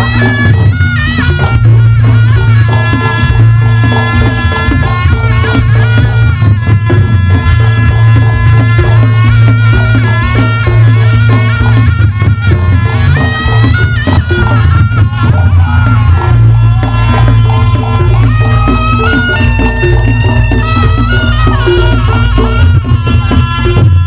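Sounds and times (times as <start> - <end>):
hand drums: 0.0 - 24.0
percussive strikes: 0.0 - 24.0
reed trumpet melody: 0.0 - 24.0.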